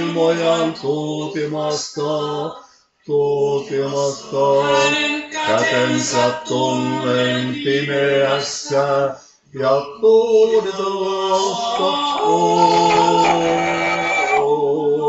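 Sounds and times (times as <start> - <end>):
men singing a cappella harmony: 0.0 - 15.0.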